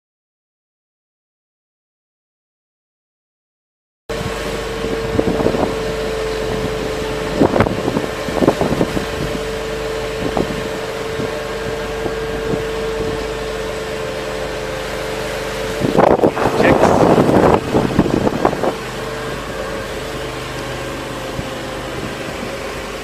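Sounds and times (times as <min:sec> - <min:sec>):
boat motor hum: 0:04.1 - 0:23.0
wind: 0:04.1 - 0:23.0.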